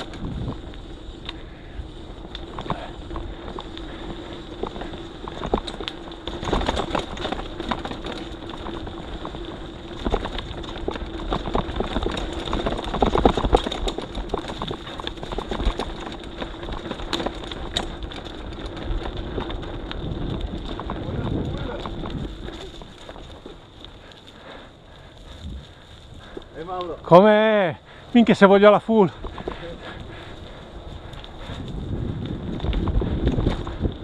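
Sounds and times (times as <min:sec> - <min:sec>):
mountain bike rattling on dirt trail: 0:00.0 - 0:34.0.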